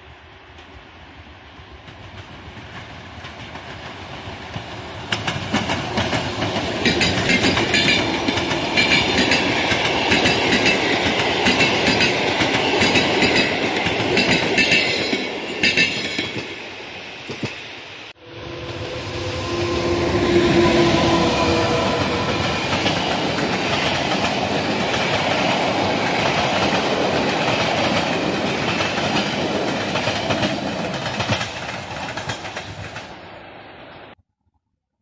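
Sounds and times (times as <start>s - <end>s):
train rumble: 0.0s - 34.2s.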